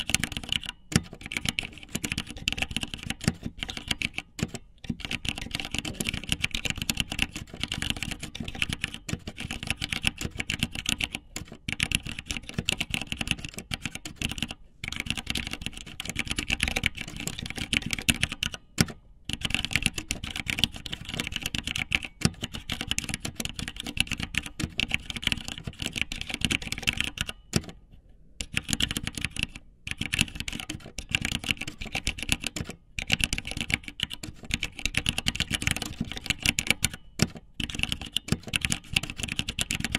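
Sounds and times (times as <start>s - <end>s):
keyboard typing: 0.0s - 27.8s, 28.4s - 39.9s.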